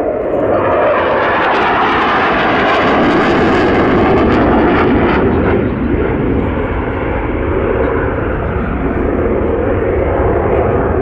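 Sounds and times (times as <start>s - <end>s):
jet fighter flying past: 0.0s - 11.0s.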